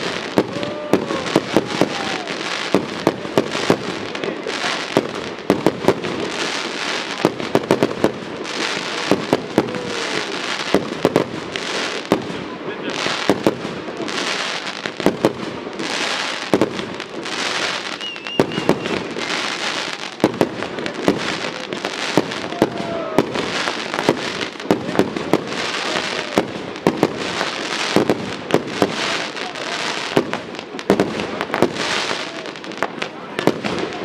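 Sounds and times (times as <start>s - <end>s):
fireworks bangs: 0.0s - 34.0s
fireworks crackling hiss: 0.0s - 34.0s.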